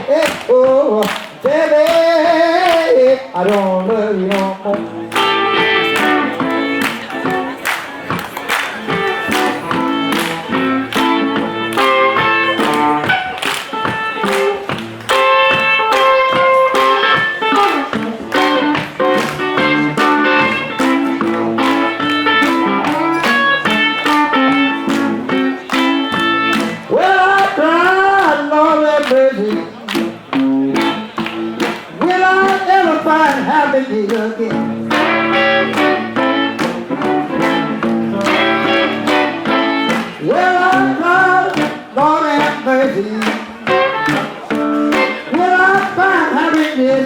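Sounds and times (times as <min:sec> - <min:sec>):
blues band playing: 0:00.0 - 0:47.0
picked electric guitar: 0:00.0 - 0:47.0.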